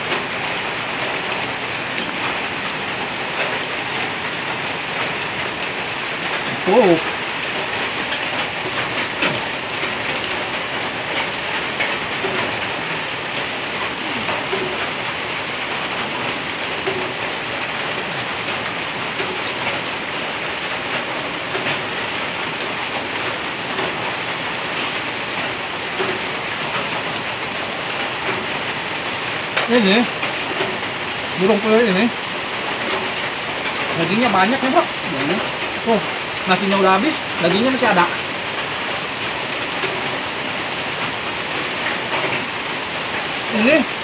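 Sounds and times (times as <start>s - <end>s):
rain on a metal roof: 0.0s - 44.0s.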